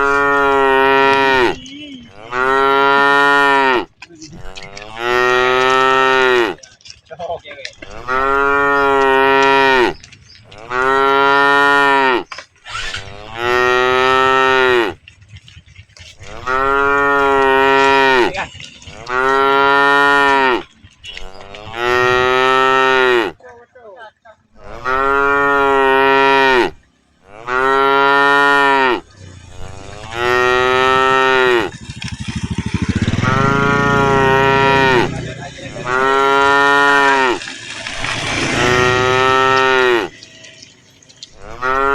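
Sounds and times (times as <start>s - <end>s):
cattle mooing: 0.0s - 6.6s, 7.8s - 12.3s, 12.9s - 15.1s, 16.0s - 23.4s, 24.6s - 41.9s.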